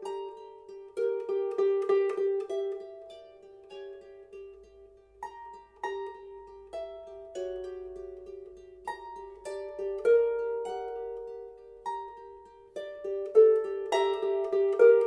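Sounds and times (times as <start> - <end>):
harp plucked notes: 0.0 - 15.0.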